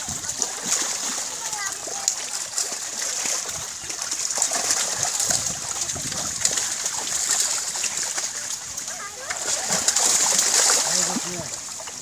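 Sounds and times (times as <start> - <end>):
fish thrashing in water: 0.0 - 12.0
water splashing against a net: 0.0 - 12.0.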